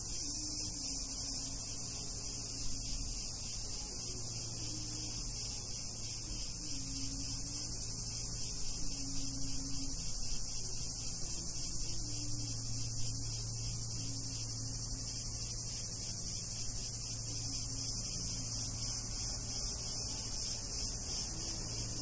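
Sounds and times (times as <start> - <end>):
cicadas chorus: 0.0 - 22.0
low steady hum: 0.0 - 22.0.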